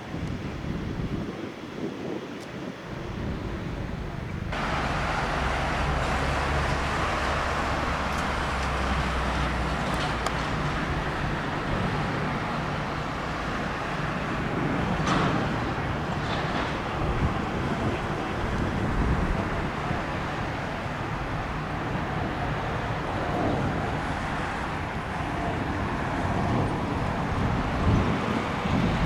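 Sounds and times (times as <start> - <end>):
wind noise: 0.0 - 29.0
jet engines roaring: 2.6 - 29.0.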